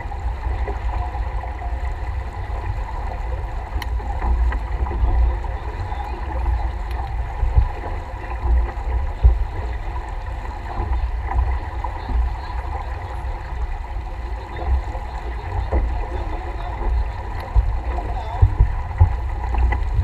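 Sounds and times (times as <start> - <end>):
water rushing along a hull: 0.0 - 20.0
wind buffeting the microphone: 0.0 - 20.0.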